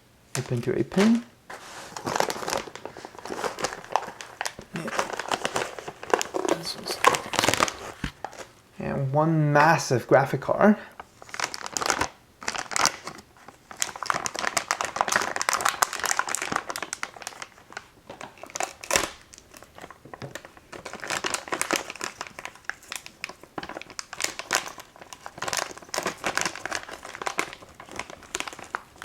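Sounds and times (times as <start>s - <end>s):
packaging crinkling and rustling: 0.3s - 8.6s, 11.0s - 29.0s.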